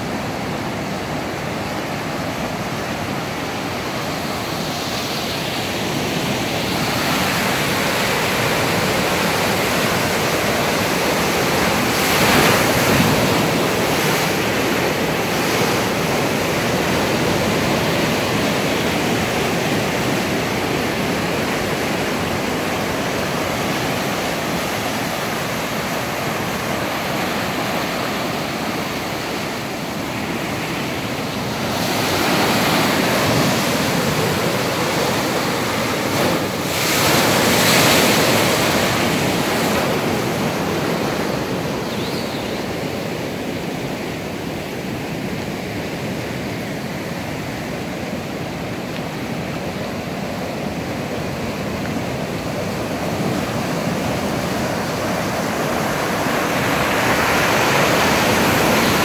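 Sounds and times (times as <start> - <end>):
river water rushing over drops: 0.0 - 59.0.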